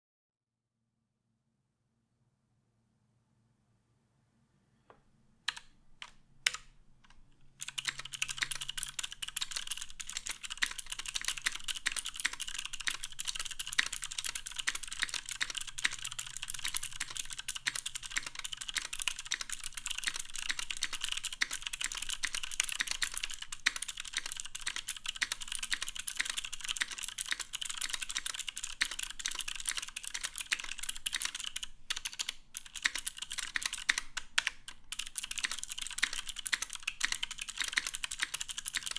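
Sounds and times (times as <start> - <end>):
clicky mechanical keyboard typing: 5.5 - 38.9.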